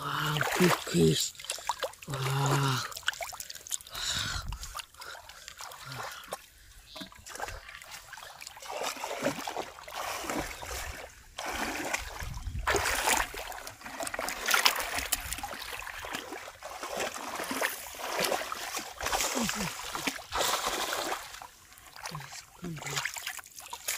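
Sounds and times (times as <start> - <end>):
hands splashing in muddy water: 0.1 - 23.9.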